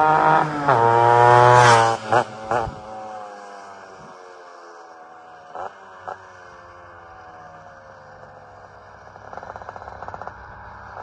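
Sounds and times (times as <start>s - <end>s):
distant scooter engine: 0.0s - 11.0s.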